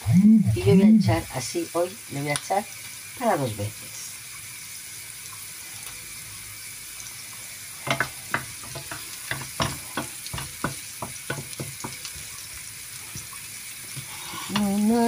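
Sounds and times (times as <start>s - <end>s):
pepper sizzling in oil: 0.0s - 15.0s.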